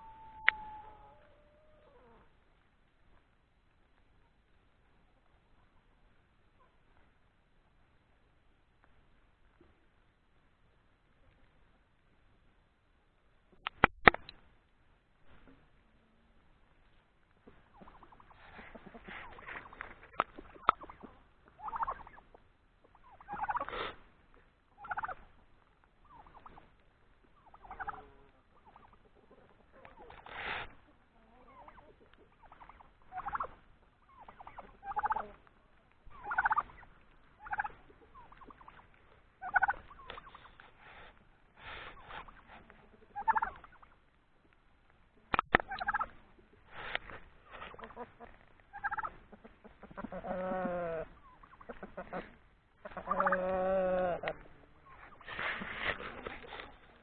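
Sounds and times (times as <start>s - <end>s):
turkeys gobbling: 0.0s - 7.1s, 16.8s - 44.1s, 45.3s - 57.0s.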